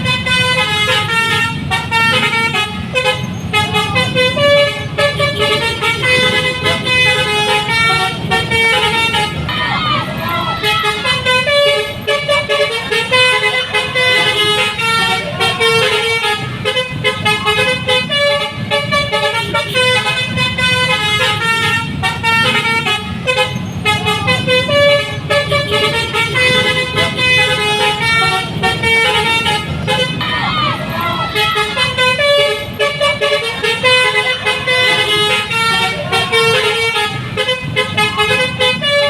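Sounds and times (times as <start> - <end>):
multi-tone musical bus horn: 0.0 - 39.0.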